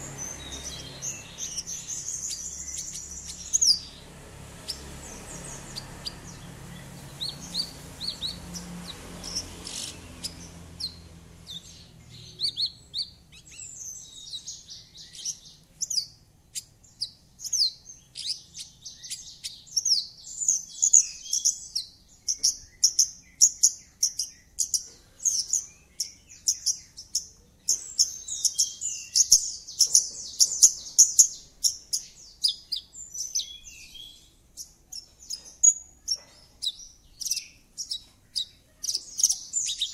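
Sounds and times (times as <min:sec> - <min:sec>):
lark singing chirps and trills: 0:00.0 - 0:39.9.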